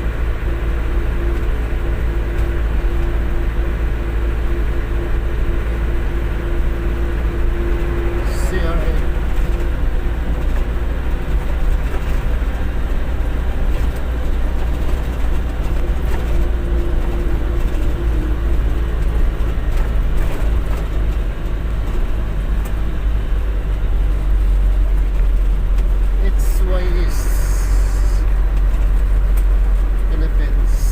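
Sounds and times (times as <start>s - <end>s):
road noise: 0.0s - 30.9s
truck engine rumble: 0.0s - 30.9s.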